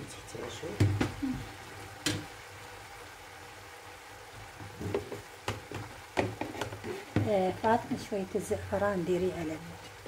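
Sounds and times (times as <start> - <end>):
meat and onions sizzling: 0.0 - 10.0.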